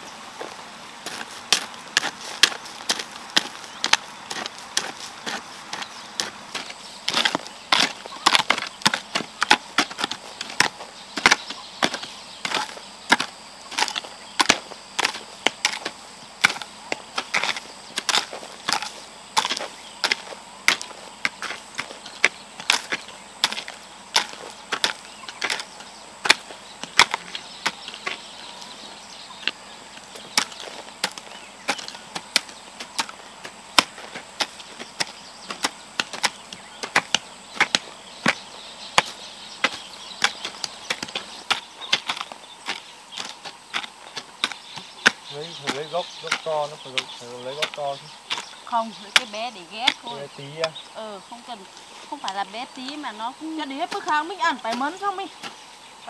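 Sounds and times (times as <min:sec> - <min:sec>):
hoes chopping into soil: 0:00.4 - 0:56.0.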